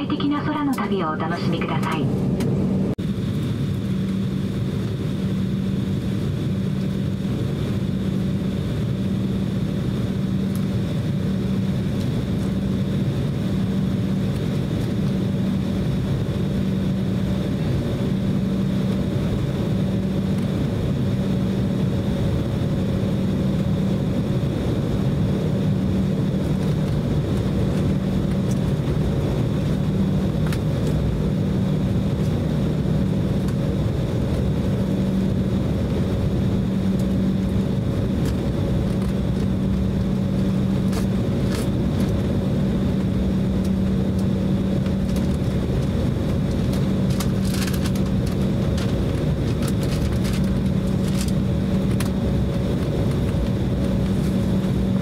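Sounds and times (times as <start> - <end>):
jet engines idling in cabin: 0.0 - 55.0.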